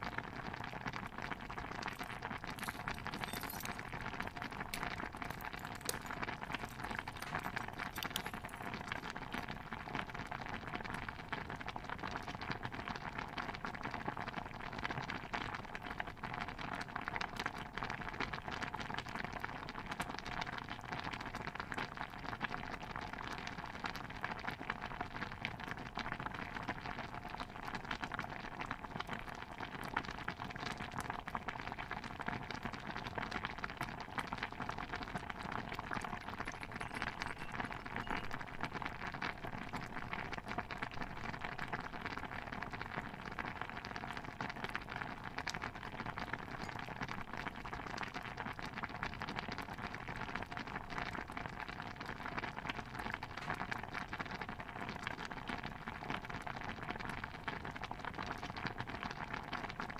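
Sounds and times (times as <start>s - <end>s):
stew bubbling in a pot: 0.0s - 59.9s.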